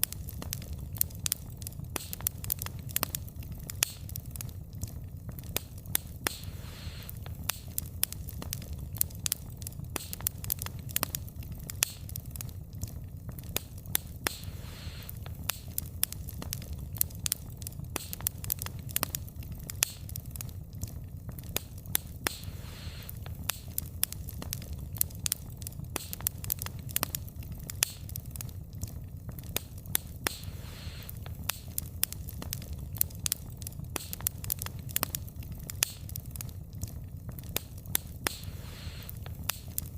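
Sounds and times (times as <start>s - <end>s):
soft hiss of fire: 0.0s - 39.9s
wood fire crackling: 0.0s - 39.9s.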